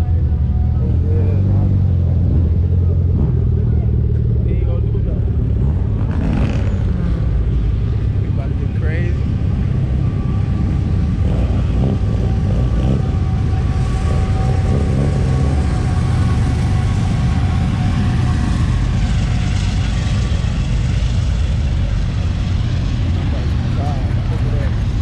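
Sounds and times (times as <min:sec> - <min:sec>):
car engine low rumble: 0:00.0 - 0:25.0.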